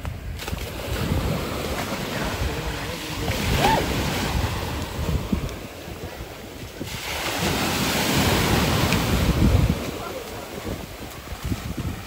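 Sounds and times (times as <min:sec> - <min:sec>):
surf washing onto beach: 0:00.0 - 0:12.0
wind rumbling on microphone: 0:00.0 - 0:12.0.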